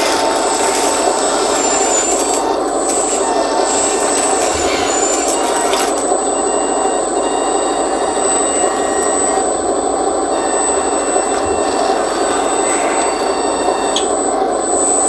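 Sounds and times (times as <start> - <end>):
electric motor whirr: 0.0 - 15.0
high-pitched hydraulic pump whine: 0.0 - 15.0.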